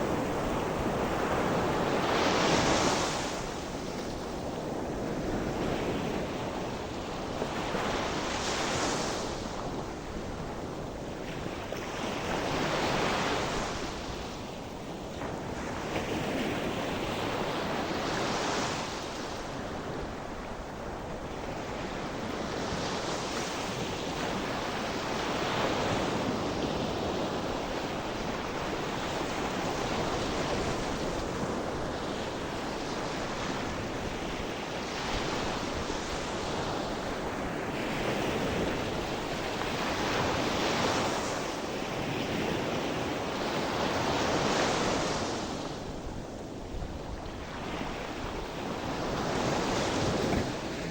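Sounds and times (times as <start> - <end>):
gentle waves breaking: 0.0 - 50.9.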